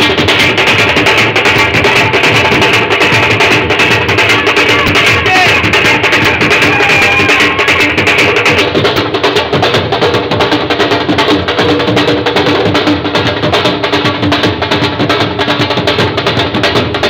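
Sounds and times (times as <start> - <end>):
drums at fast beat: 0.0 - 17.0.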